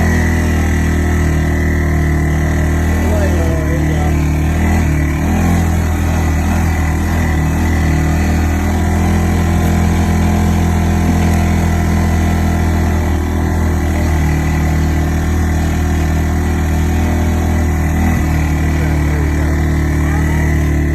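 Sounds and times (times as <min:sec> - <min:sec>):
atv engine running steadily: 0:00.0 - 0:20.9.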